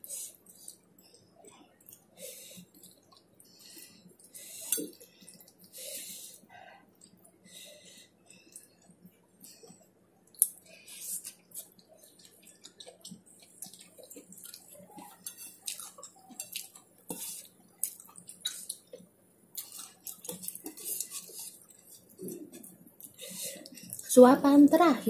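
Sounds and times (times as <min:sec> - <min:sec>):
wet chewing and lip smacks: 0:00.3 - 0:03.6, 0:04.2 - 0:05.8, 0:08.5 - 0:24.1.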